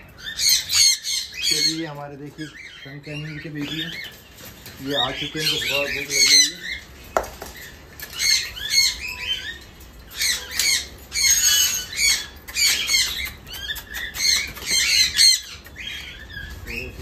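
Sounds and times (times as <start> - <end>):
parrots screeching: 0.0 - 17.0.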